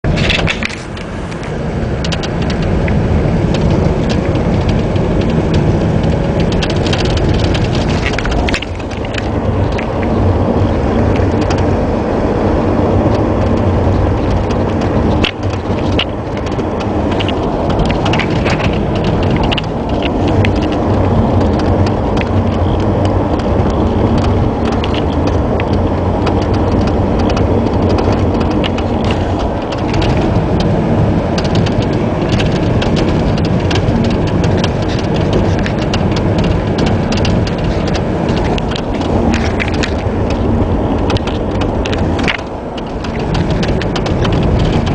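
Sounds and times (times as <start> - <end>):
road and tyre noise: 0.0 - 44.9
suspension knocks and clicks: 0.1 - 44.9.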